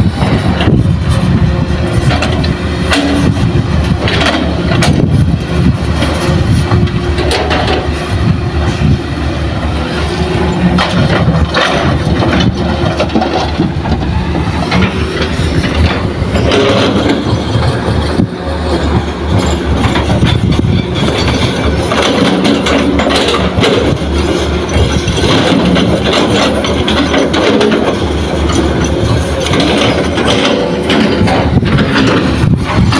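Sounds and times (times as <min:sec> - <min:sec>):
heavy diesel engines running: 0:00.0 - 0:32.9.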